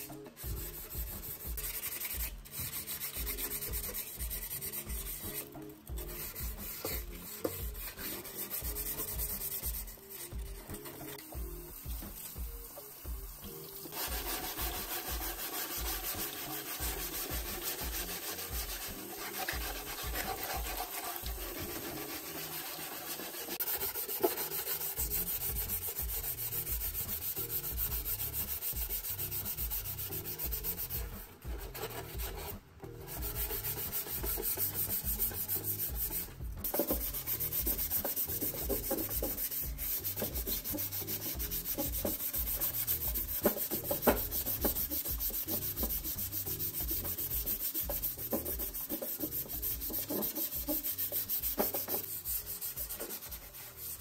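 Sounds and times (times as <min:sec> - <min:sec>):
sanding pad rubbing metal: 0:00.0 - 0:12.4, 0:13.8 - 0:54.0.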